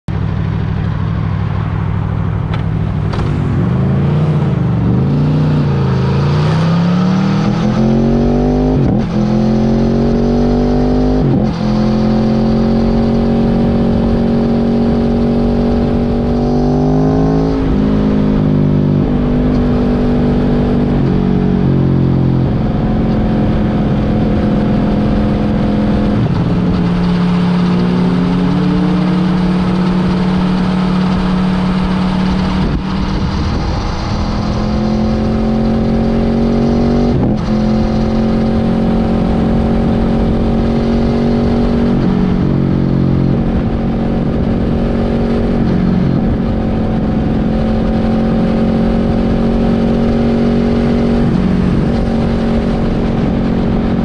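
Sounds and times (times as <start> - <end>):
motorcycle engine shifting gears: 0.1 - 54.0.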